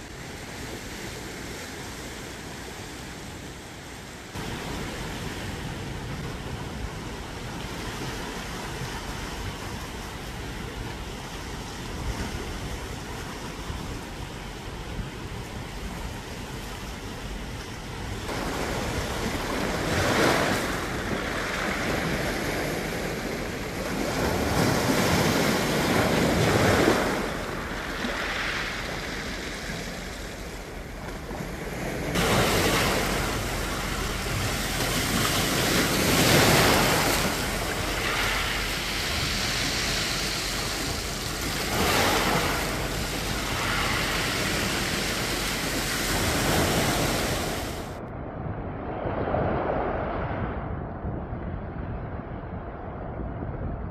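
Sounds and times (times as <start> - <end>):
waves washing among rocks: 0.0 - 48.0.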